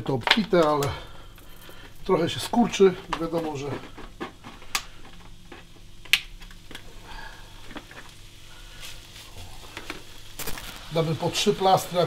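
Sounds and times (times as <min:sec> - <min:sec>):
plastic packaging rustling: 0:00.0 - 0:06.9, 0:07.6 - 0:12.0.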